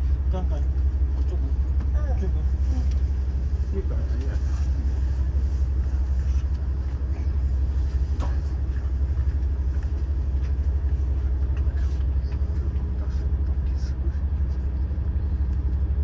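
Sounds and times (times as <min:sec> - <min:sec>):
diesel engines idling: 0:00.0 - 0:16.0.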